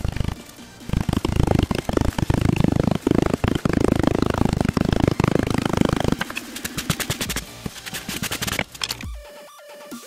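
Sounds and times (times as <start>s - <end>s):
rammer pounding sand: 0.0s - 8.7s.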